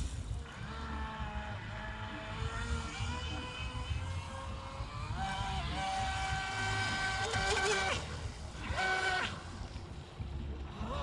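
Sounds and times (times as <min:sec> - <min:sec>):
electric boat motor whining: 0:00.0 - 0:11.0
wind and water rumble: 0:00.0 - 0:11.0.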